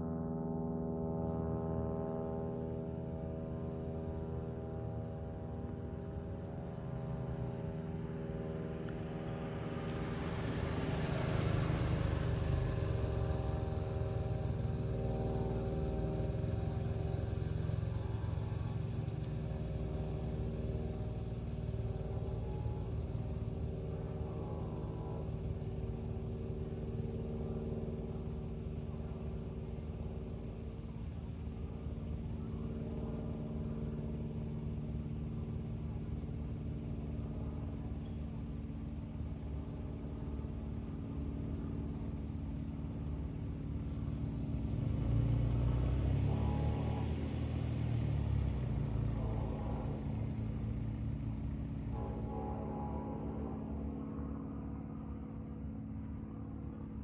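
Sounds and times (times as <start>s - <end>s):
propeller plane droning overhead: 0.0s - 57.0s.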